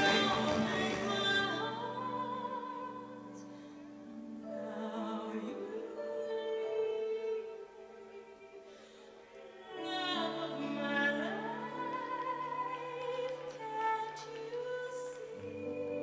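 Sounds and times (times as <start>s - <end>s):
slow gliding music: 0.0s - 16.0s.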